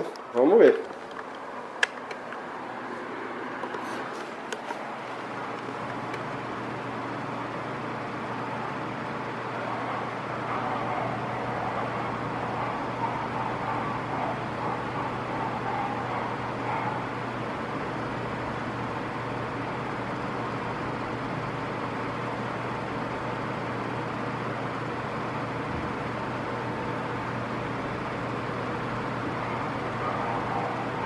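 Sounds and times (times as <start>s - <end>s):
electric fan whooshing: 0.0s - 31.0s
low motor hum: 0.9s - 31.0s.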